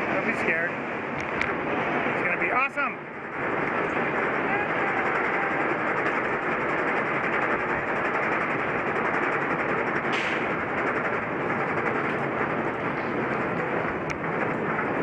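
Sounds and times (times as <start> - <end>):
roller coaster lift rattle: 0.0 - 15.0.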